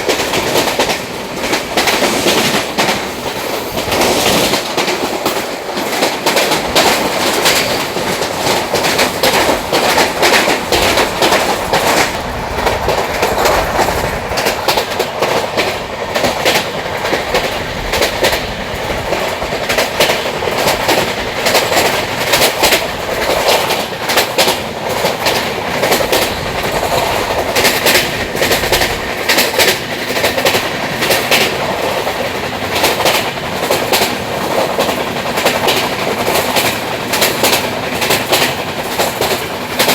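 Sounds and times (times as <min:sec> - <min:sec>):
train wheels clacking on track: 0:00.0 - 0:39.9.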